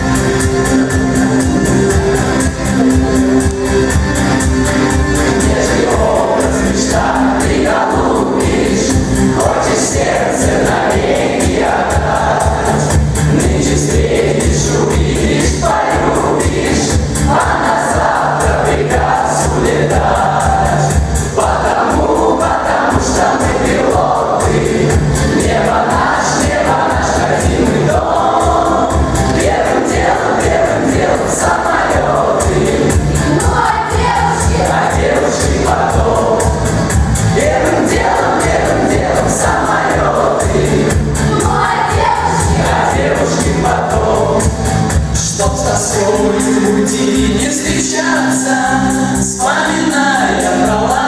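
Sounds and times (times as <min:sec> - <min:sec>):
backing track with steady beat: 0:00.0 - 0:51.0
school choir singing: 0:05.1 - 0:51.0.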